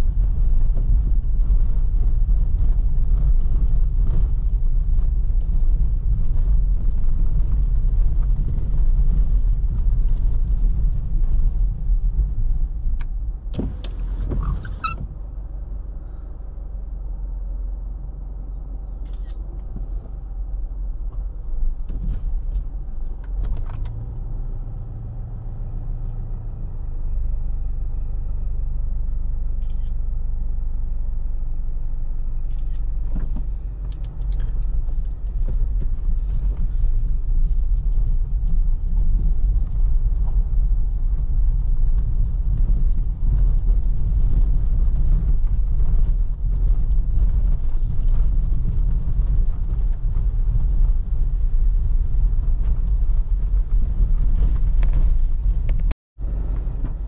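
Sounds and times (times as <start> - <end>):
car engine rumble: 0.0 - 57.0
tyres on road: 0.0 - 57.0.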